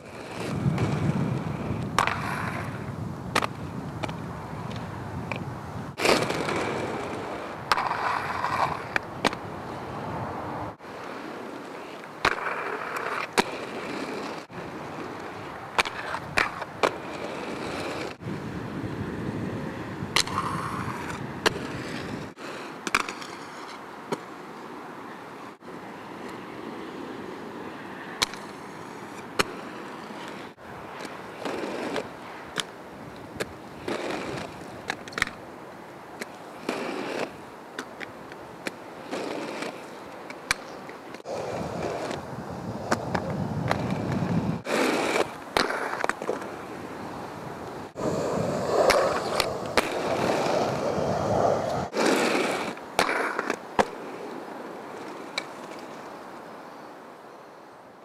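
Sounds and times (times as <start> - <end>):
skateboard popping and landing: 0.0 - 9.5, 11.0 - 18.2, 20.1 - 24.3, 28.2 - 35.4, 36.1 - 46.8, 48.0 - 56.1
skateboard wheels rolling on asphalt: 0.0 - 58.0.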